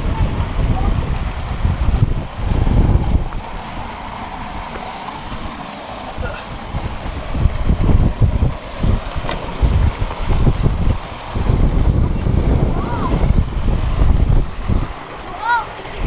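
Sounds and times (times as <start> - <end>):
rushing water from falls: 0.0 - 16.0
wind buffeting microphone: 0.0 - 16.0.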